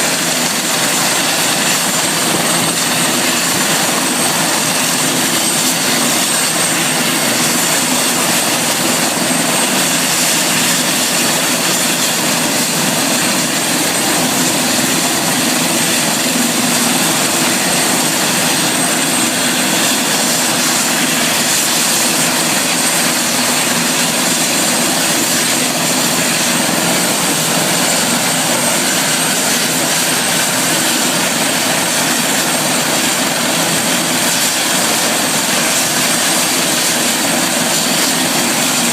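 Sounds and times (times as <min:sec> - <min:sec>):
helicopter running: 0:00.0 - 0:38.9.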